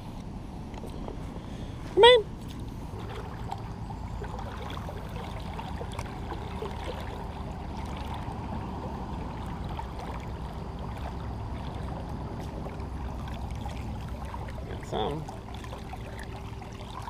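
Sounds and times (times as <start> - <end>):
river water rushing: 1.2 - 17.0.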